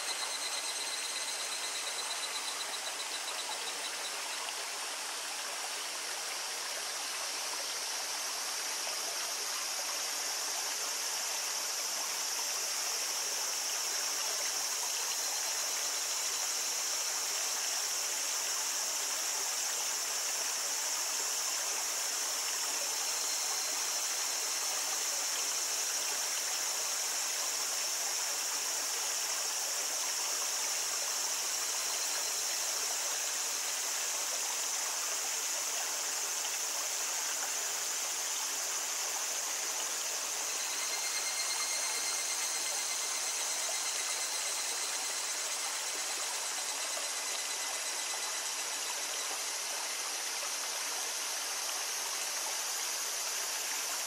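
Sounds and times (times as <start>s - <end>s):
cicadas chorus: 0.0s - 54.0s
small stream babbling: 0.0s - 54.0s.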